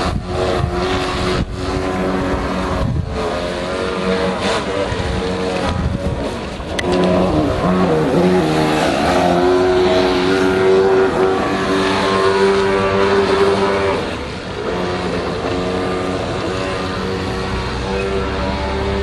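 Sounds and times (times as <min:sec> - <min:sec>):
model speedboat motor humming: 0:00.0 - 0:19.0.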